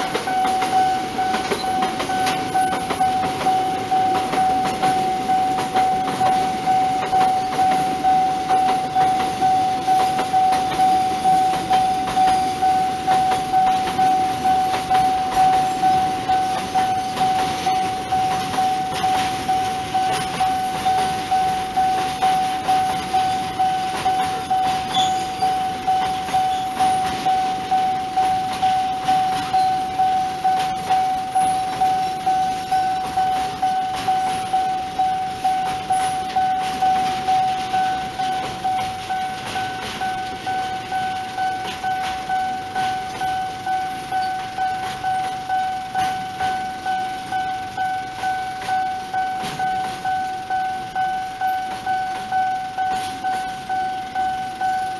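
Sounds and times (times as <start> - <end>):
level crossing bell ringing: 0.0 - 54.9
train wheels clattering on rails: 0.0 - 54.9.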